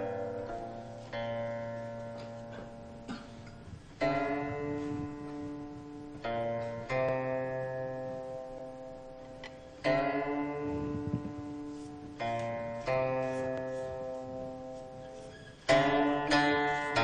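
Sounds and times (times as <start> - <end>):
slow plucked-string music: 0.0 - 17.0.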